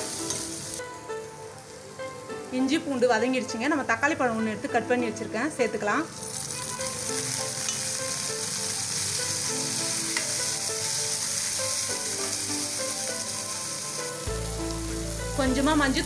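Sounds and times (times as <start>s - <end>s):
tomatoes sizzling in oil: 0.0s - 16.0s.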